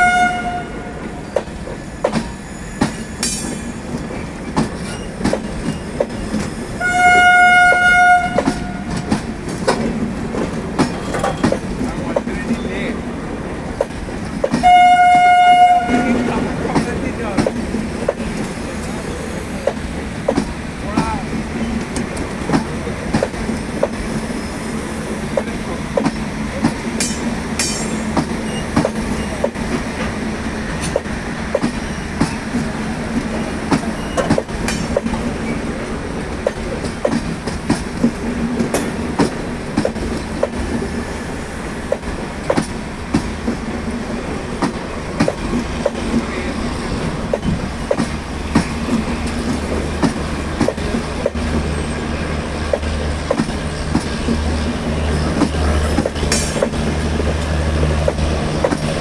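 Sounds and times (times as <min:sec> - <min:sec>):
train rumble: 0:00.0 - 0:59.0
train wheels clacking over rail joints: 0:00.4 - 0:59.0.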